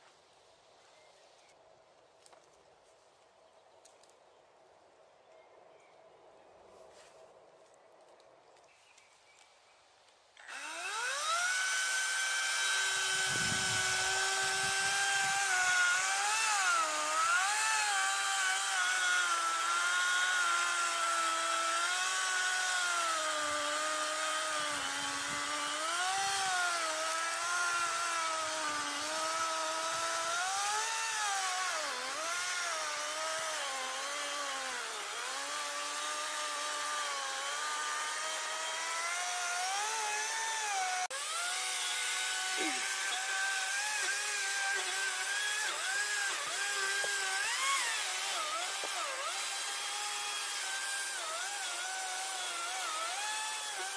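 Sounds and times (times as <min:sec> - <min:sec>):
chainsaw sawing into tree: 0:10.4 - 0:53.9.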